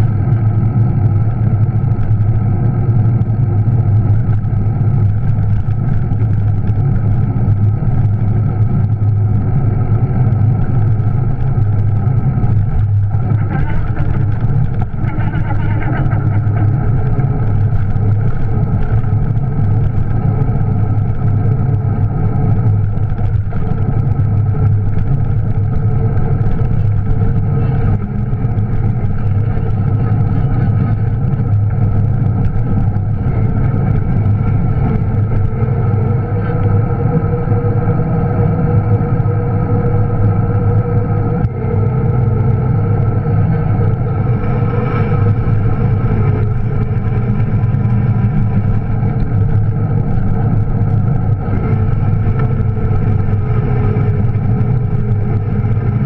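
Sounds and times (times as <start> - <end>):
electric bike motor humming: 0.0 - 56.0.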